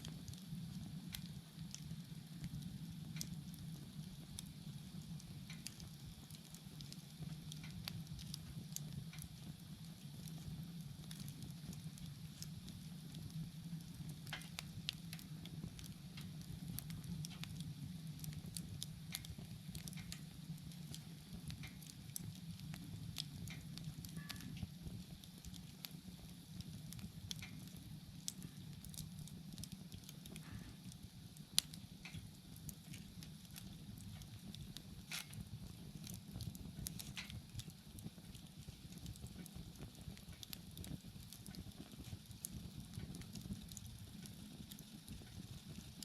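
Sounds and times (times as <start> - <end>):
bonfire crackling and popping: 0.0 - 46.0
low rumble of flames: 0.0 - 46.0.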